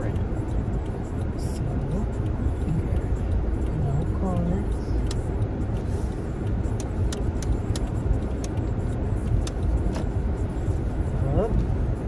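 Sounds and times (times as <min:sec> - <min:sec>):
car engine and tyres rumble: 0:00.0 - 0:12.0.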